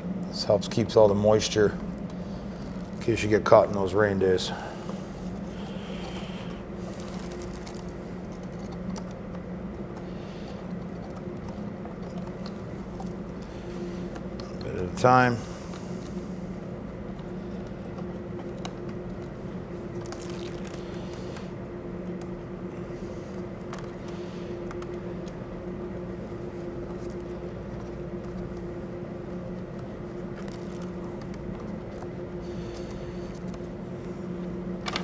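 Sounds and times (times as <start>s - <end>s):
machine hum: 0.0s - 35.0s
rubber seal squishing and rustling: 4.9s - 22.3s, 23.3s - 35.0s.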